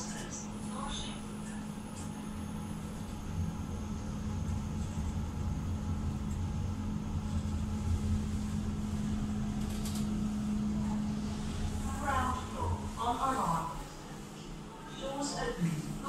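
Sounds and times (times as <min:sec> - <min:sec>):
lift humming and rumbling: 0:00.0 - 0:16.0.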